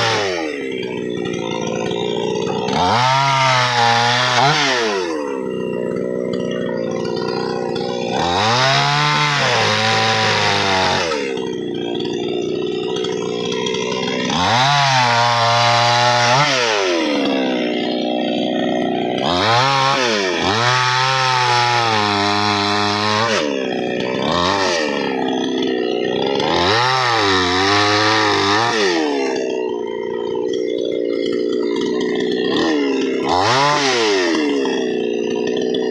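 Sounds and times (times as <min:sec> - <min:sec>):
chainsaw engine revving: 0:00.0 - 0:35.9.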